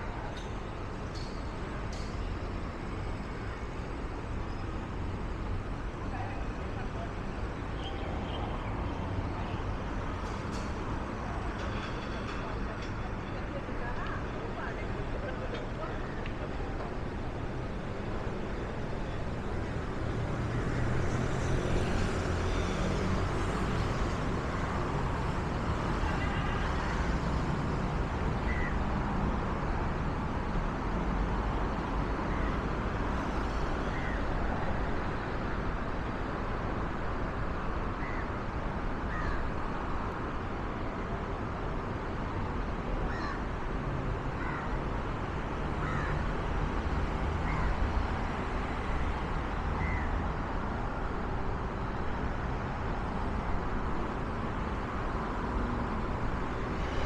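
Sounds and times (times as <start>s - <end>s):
city traffic rumble: 0.0s - 57.0s.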